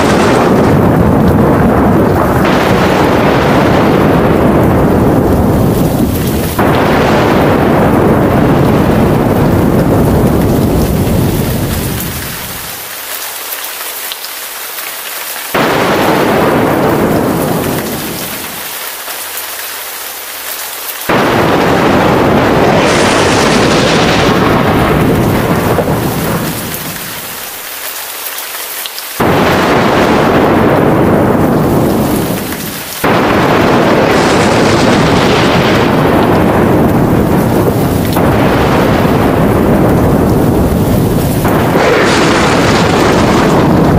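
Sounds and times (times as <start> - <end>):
thunder rumbles: 0.0 - 13.0, 15.5 - 19.4, 21.0 - 27.7, 29.2 - 43.9
heavy rain hissing: 0.0 - 43.9.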